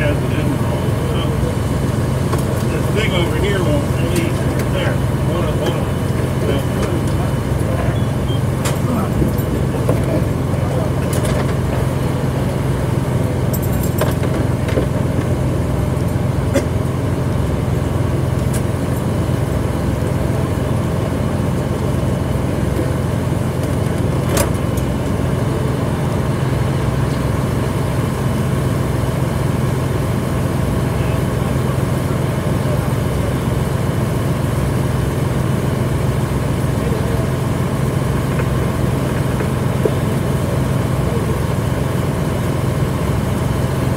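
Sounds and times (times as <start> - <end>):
fire engine droning: 0.0 - 43.9.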